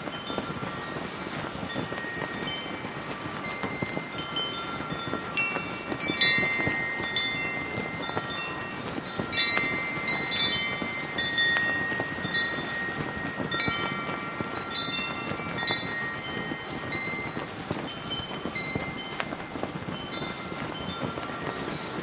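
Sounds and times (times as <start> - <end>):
flag flapping: 0.0 - 22.0
heavy wind rushing: 0.0 - 22.0
metal wind chimes ringing: 0.0 - 22.0.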